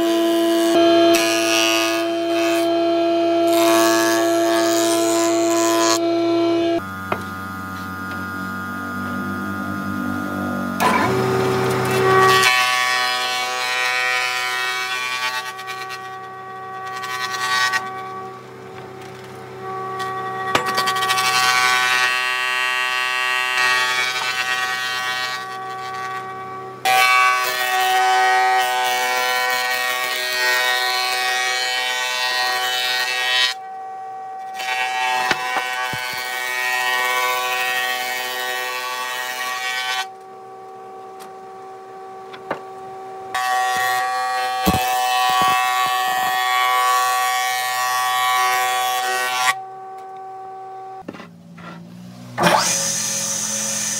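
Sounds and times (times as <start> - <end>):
planer cutting wood: 0.0 - 33.6, 34.4 - 40.1, 43.3 - 49.6, 51.6 - 53.9
planer machine whine: 0.0 - 53.9.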